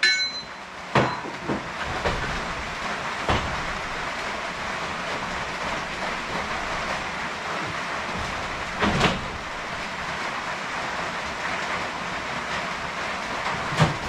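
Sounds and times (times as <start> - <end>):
rain drumming on metal roof: 0.0 - 14.0.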